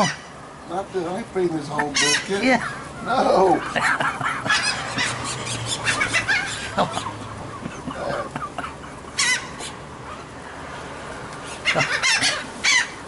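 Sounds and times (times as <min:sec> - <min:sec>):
gulls calling: 0:00.0 - 0:10.8, 0:11.4 - 0:13.0.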